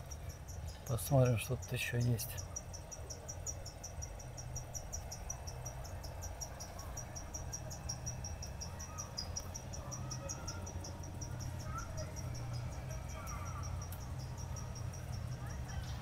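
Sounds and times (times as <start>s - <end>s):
crickets chirping: 0.0s - 16.0s
low steady hum: 0.0s - 16.0s.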